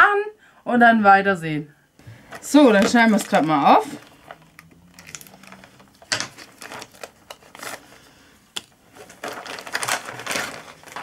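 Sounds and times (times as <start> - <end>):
plastic bag crinkling: 2.0 - 11.0.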